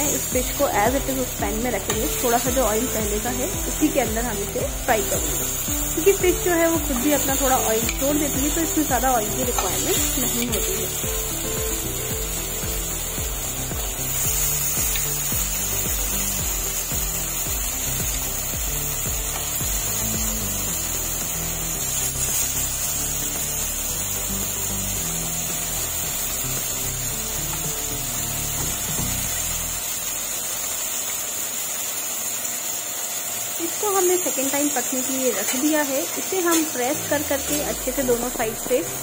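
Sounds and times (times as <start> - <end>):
background music with low bass: 0.0 - 30.0, 36.9 - 39.0
fish sizzling in a frying pan: 0.0 - 39.0.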